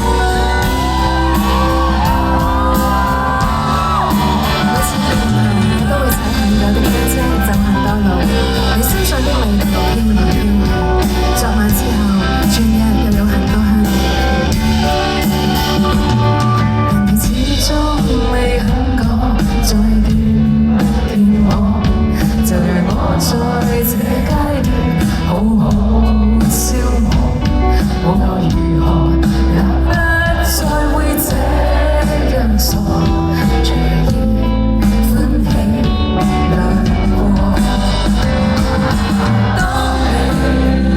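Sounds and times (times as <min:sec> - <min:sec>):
live band playing: 0:00.0 - 0:40.9
person singing: 0:00.0 - 0:40.9.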